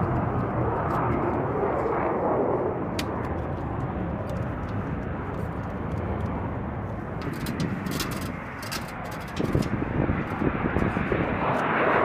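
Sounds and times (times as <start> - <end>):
jet aircraft running: 0.0 - 12.0.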